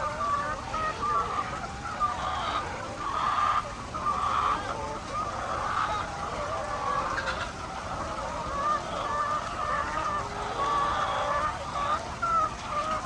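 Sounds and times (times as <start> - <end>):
chickens clucking and cackling: 0.0 - 13.0.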